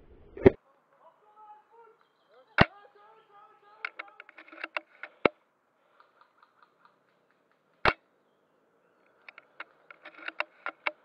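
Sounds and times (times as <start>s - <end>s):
faint clicks: 1.8s - 11.0s.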